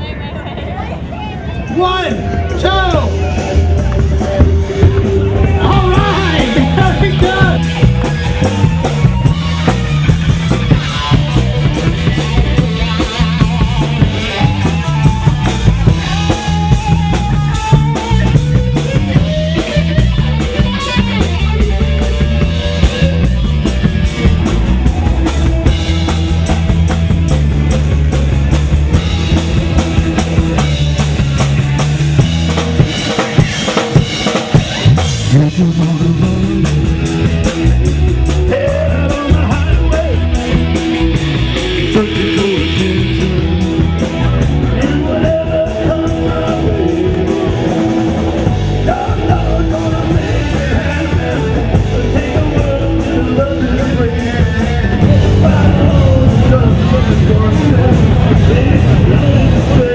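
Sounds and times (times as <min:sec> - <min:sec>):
electric guitars: 0:00.0 - 0:59.9
drum kit beat: 0:03.0 - 0:59.9.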